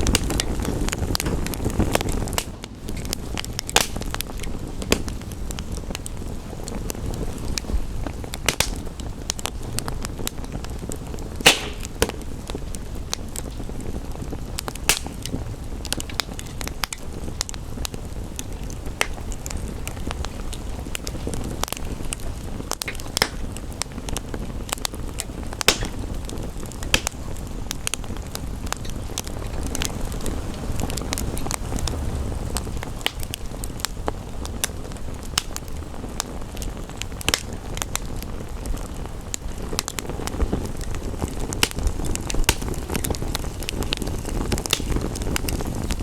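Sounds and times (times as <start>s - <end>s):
fire popping: 0.0s - 46.0s
rain: 0.0s - 46.0s
wood fire crackling: 0.0s - 46.0s.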